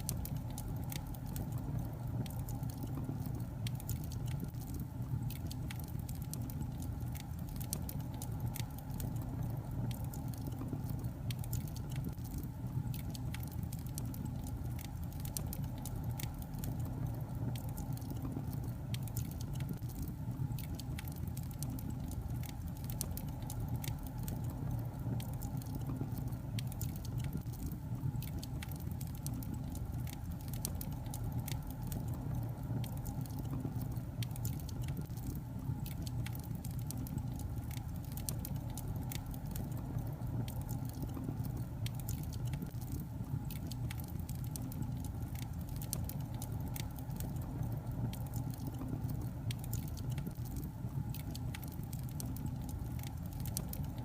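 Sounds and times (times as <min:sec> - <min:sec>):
log fire crackling and popping: 0:00.0 - 0:54.0.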